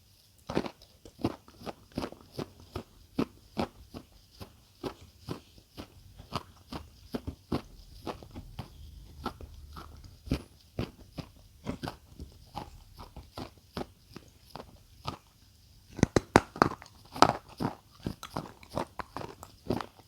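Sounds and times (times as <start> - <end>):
chewing crisp food: 0.2 - 20.0.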